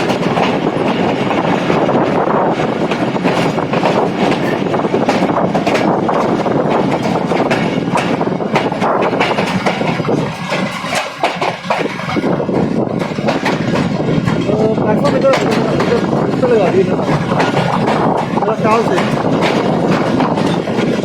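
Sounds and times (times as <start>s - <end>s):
train coaches rumbling: 0.0s - 21.0s
wheels clattering over rail joints: 0.0s - 21.0s.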